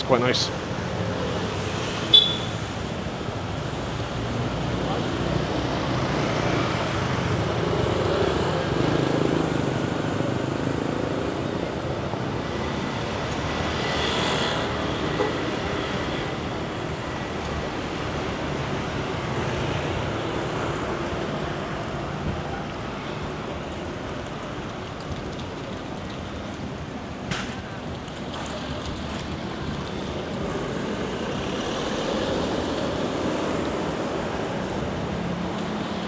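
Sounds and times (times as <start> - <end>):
cars and scooters passing: 0.0 - 36.0.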